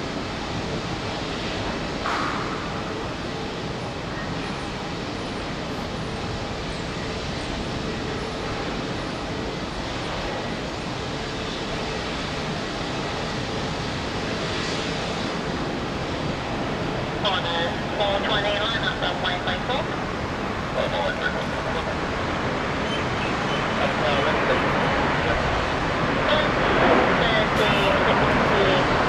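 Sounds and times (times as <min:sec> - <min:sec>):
jet engine of landing plane: 0:00.0 - 0:29.0.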